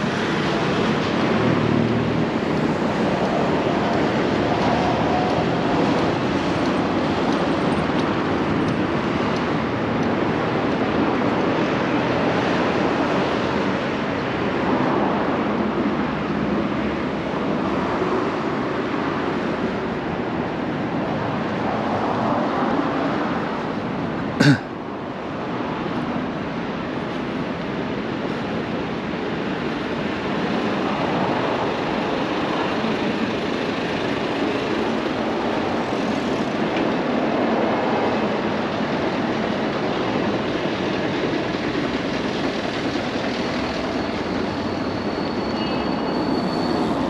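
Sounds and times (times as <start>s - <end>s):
city road traffic passing: 0.0s - 47.0s.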